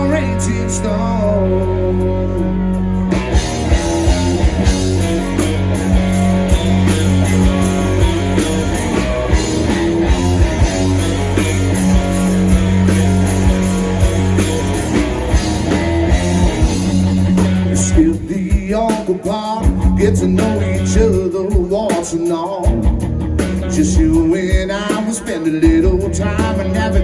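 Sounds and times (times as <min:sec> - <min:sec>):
live rock band playing: 0:00.0 - 0:27.0
drum kit beat: 0:03.1 - 0:27.0.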